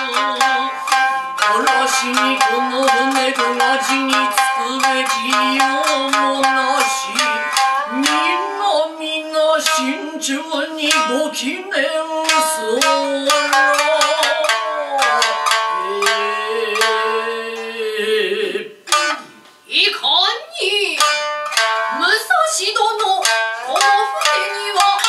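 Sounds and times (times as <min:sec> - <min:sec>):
shamisen plucked: 0:00.0 - 0:18.0, 0:18.8 - 0:19.5, 0:20.6 - 0:25.0
woman singing: 0:00.0 - 0:18.6, 0:21.9 - 0:25.0.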